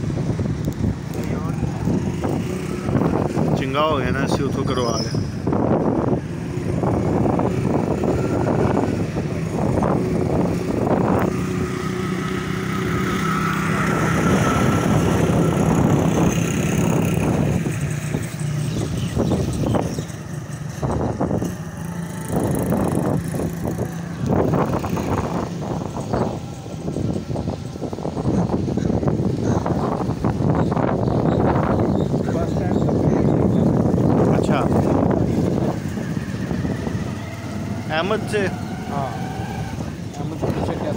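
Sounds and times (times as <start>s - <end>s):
road noise: 0.0s - 40.9s
wind buffeting microphone: 0.0s - 40.9s
vehicle engine running: 5.5s - 39.1s.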